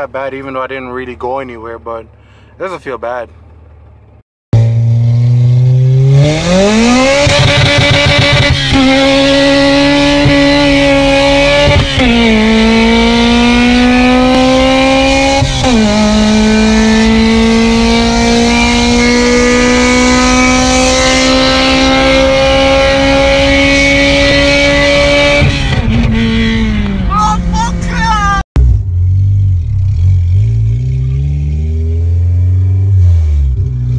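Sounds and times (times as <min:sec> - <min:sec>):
car engine revving through gears: 0:04.6 - 0:27.1, 0:28.6 - 0:33.9.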